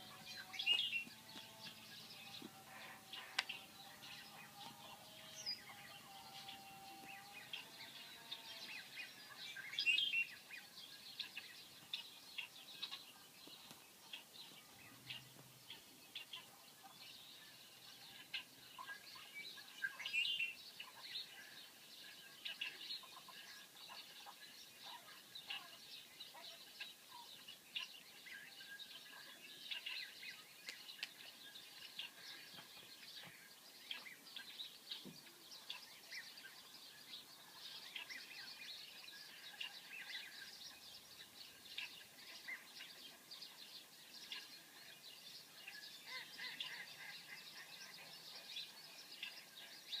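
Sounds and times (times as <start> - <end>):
recorded birdsong through speaker: 0.0 - 50.0.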